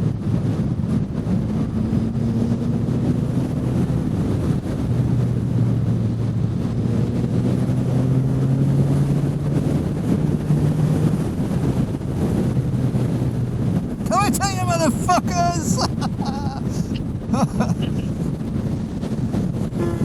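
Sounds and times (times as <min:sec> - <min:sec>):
motorcycle engine accelerating: 0:00.0 - 0:14.0, 0:16.2 - 0:20.0
wind noise on microphone: 0:00.0 - 0:20.0.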